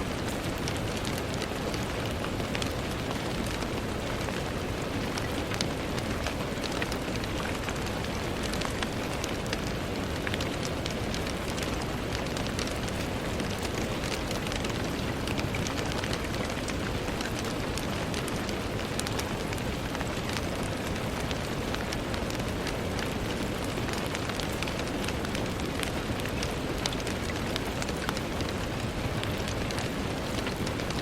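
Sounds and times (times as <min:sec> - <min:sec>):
rain on a window: 0:00.0 - 0:31.0.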